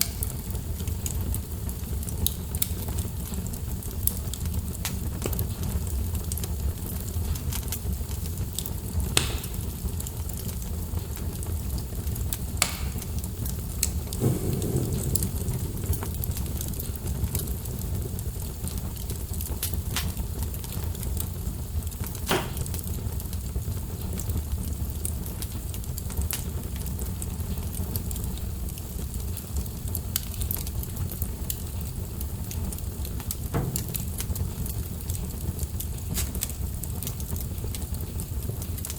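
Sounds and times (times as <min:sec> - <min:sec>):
fire crackling and popping: 0:00.0 - 0:38.9
fire rumbling: 0:00.0 - 0:38.9.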